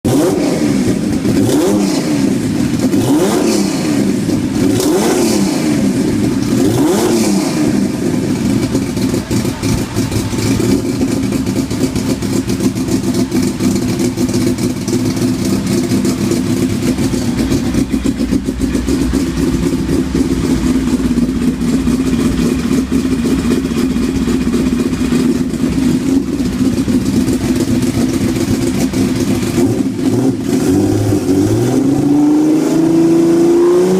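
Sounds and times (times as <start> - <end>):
car engine revving: 0.1 - 33.9.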